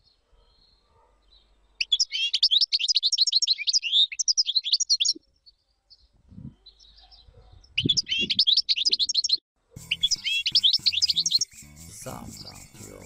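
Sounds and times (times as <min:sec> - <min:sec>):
bird twittering song: 0:00.0 - 0:13.0.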